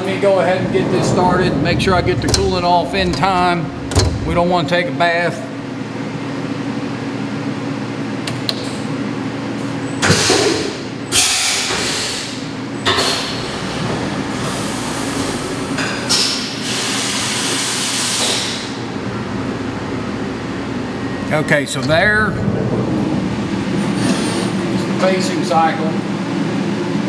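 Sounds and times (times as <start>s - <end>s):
milling machine humming: 0.0s - 27.0s.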